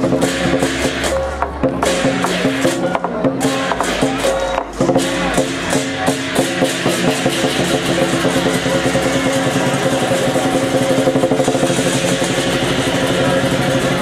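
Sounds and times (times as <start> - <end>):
cymbals clashing: 0.0 - 14.0
large drum beating: 0.0 - 14.0.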